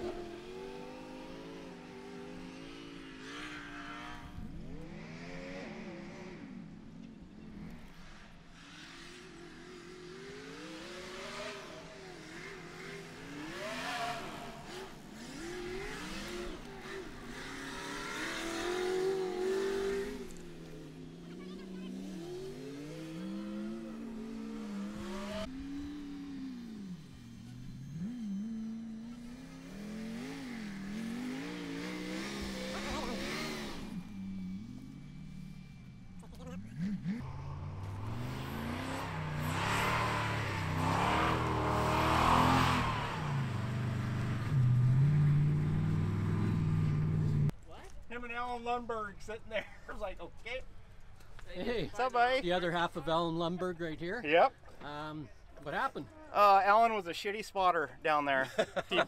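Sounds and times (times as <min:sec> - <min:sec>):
engine revving: 0:00.0 - 0:47.6.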